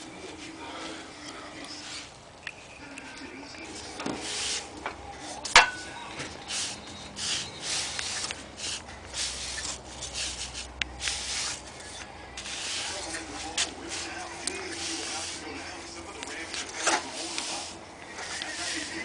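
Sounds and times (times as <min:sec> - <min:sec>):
rubbing and scraping strokes: 0:03.7 - 0:19.0.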